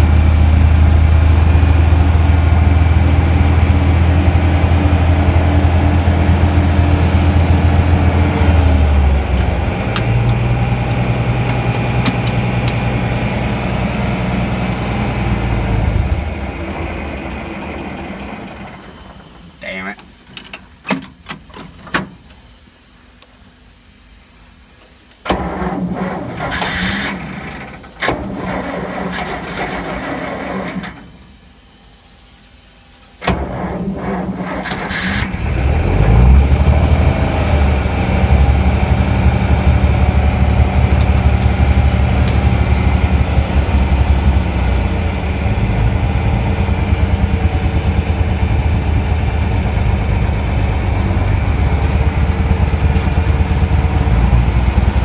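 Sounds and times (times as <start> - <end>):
engine cranking and running: 0.0 - 19.4, 25.3 - 31.1, 33.2 - 55.0.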